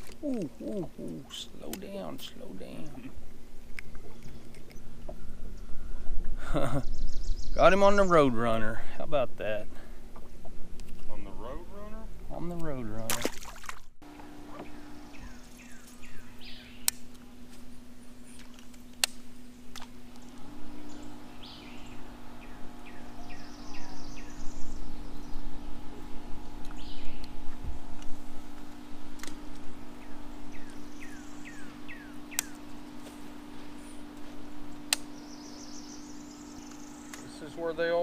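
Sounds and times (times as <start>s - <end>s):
birds chirping: 0.0s - 8.8s, 14.1s - 38.0s
steady low hum: 0.0s - 38.0s.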